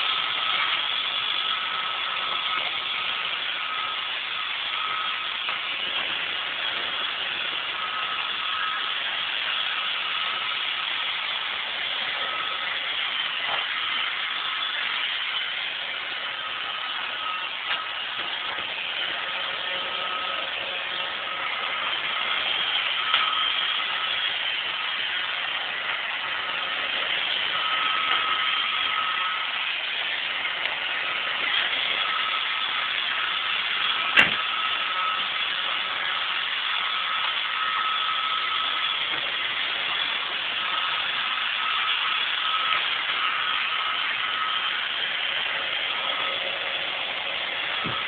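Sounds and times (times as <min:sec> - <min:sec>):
robot vacuum whirring: 0:00.0 - 0:48.0
thin whine: 0:00.0 - 0:48.0.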